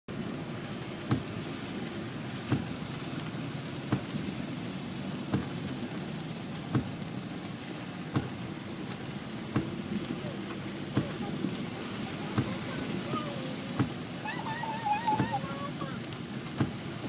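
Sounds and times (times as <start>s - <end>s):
steady rain: 0.1s - 17.0s.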